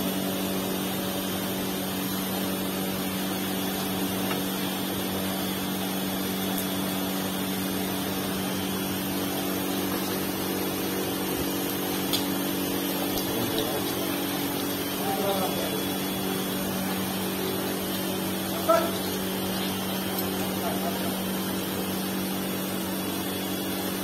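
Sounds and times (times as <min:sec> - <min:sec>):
furnace machinery humming: 0:00.0 - 0:24.0.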